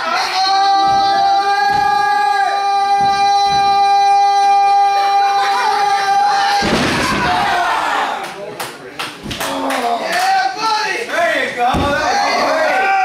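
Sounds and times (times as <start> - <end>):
spectators yelling: 0.0 - 8.3, 9.4 - 13.0.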